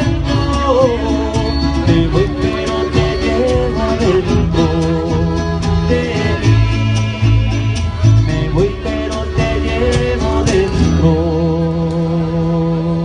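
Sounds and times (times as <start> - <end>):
violins playing melody: 0.0 - 11.1
steady bass line: 0.0 - 13.0
strummed guitars: 0.0 - 13.0.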